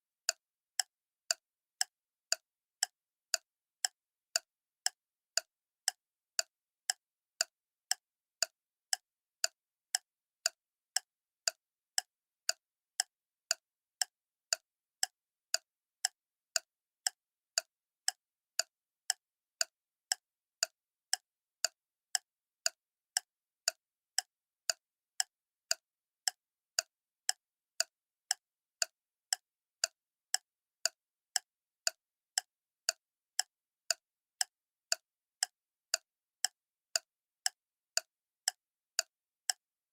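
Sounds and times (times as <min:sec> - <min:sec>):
clock ticking: 0:00.3 - 0:39.6.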